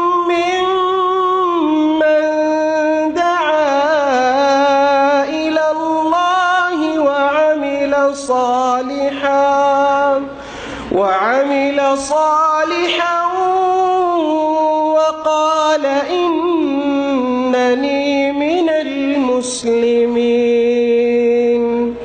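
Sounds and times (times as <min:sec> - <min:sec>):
man reciting in melodic chant: 0:00.0 - 0:22.0.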